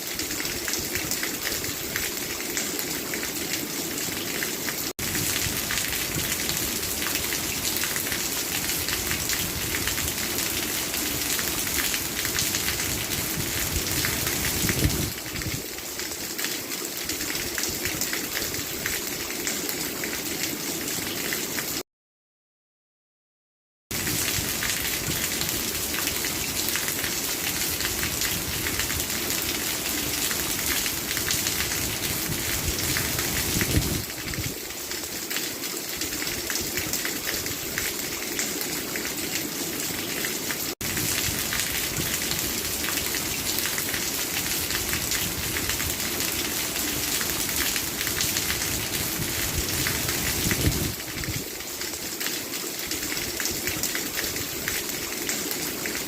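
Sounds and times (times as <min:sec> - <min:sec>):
steady rain patter: 0:00.0 - 0:21.8, 0:23.9 - 0:56.0.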